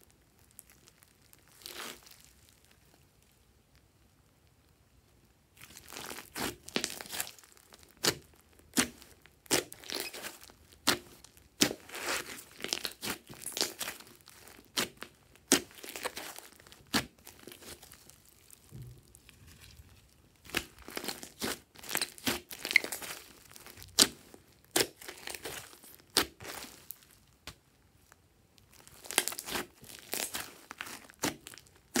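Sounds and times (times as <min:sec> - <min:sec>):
slime crackling and popping: 0:00.3 - 0:03.0, 0:05.6 - 0:27.6, 0:28.6 - 0:32.0.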